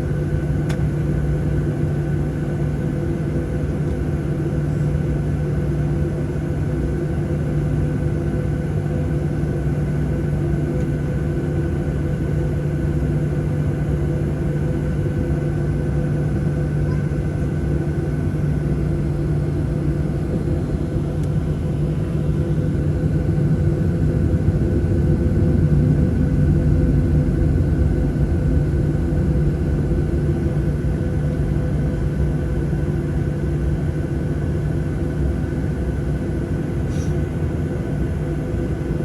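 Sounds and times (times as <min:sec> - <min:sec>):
jet engines cabin rumble: 0:00.0 - 0:39.0.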